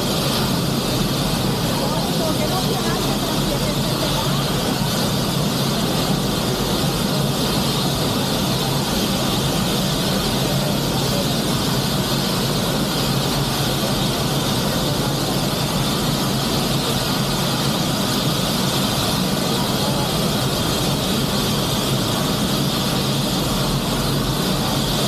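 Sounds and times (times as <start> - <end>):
mechanical whine: 0.0 - 25.0.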